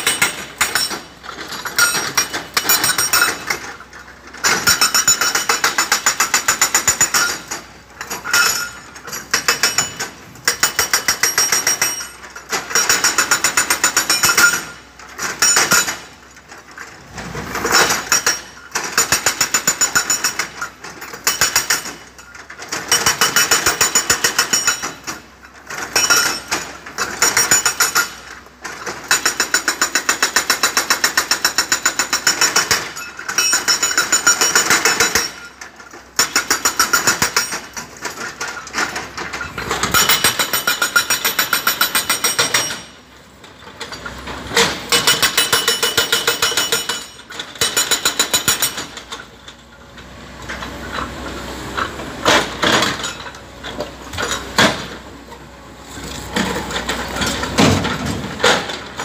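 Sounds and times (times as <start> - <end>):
hydraulic breaker hammering rock: 0.0 - 3.8, 4.4 - 16.2, 17.5 - 43.0, 44.0 - 49.2, 51.8 - 53.3.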